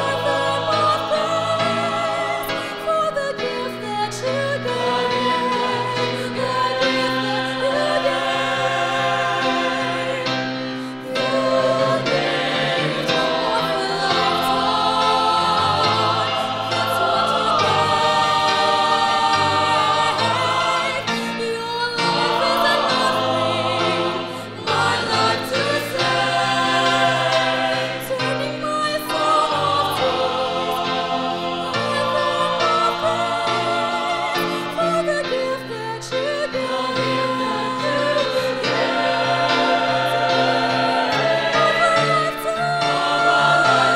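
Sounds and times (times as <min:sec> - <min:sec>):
mixed choir singing in harmony: 0:00.0 - 0:43.9
musical accompaniment: 0:00.0 - 0:43.9.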